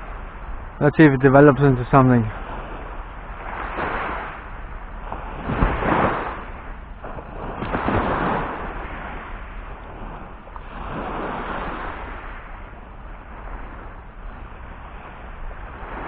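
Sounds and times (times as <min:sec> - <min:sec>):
small waves breaking on sand: 0:00.0 - 0:16.0
steady low rumble: 0:00.0 - 0:16.0.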